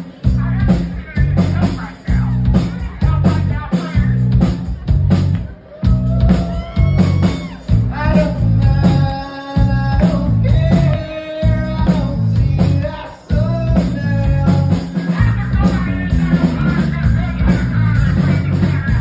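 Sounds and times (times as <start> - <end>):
blues-rock band playing: 0.0 - 19.0
man singing: 0.2 - 4.5, 7.0 - 19.0.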